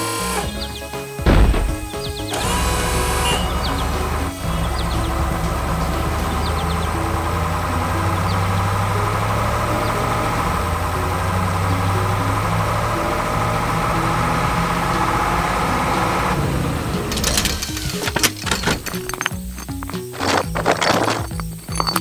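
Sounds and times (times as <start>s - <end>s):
heavy machine engine idling: 1.3s - 19.0s.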